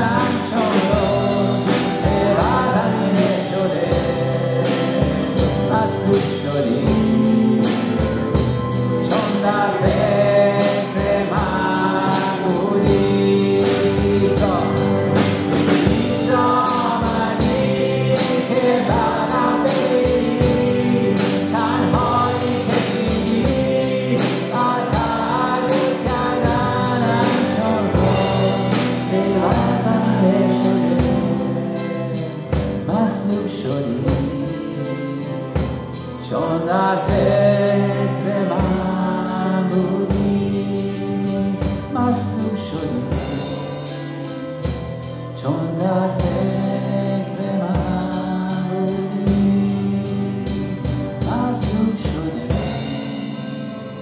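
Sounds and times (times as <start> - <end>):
drum kit beat: 0.0 - 54.0
piano and keyboard: 0.0 - 54.0
voices singing gospel: 0.0 - 54.0.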